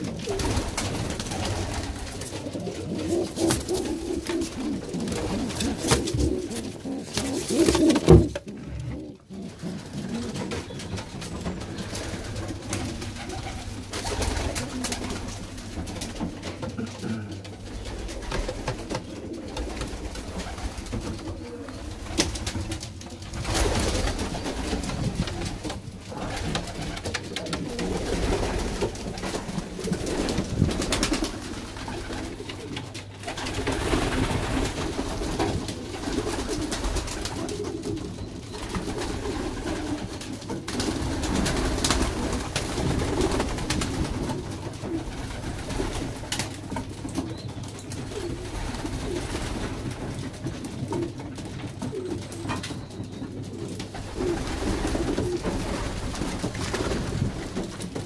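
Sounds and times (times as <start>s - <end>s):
pigeons cooing: 0.0s - 58.0s
wings fluttering: 0.0s - 58.0s.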